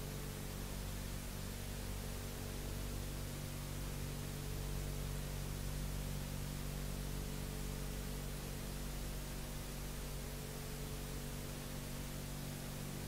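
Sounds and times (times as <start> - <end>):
low mains hum: 0.0 - 13.0.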